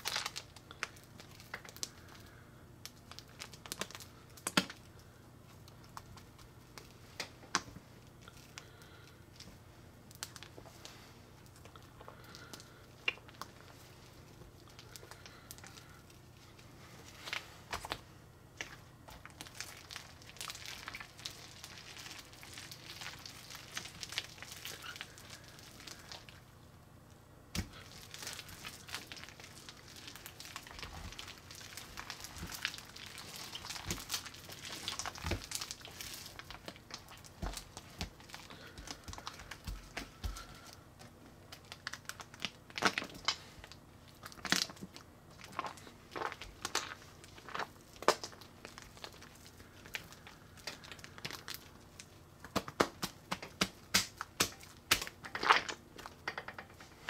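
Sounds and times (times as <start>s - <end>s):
slime crackling and squelching: 0.0s - 26.6s, 27.5s - 57.0s.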